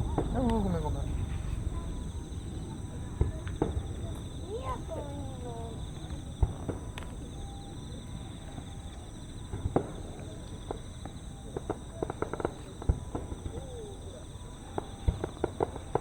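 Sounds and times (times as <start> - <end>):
distant fireworks booming: 0.0 - 16.0
fireworks crackling pops: 0.0 - 16.0.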